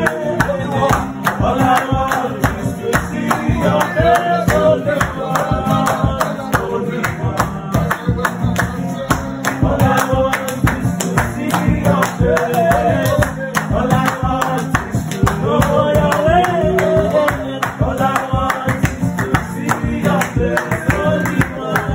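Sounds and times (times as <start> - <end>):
men singing worship song: 0.0 - 21.9
musical backing with steady beat: 0.0 - 21.9.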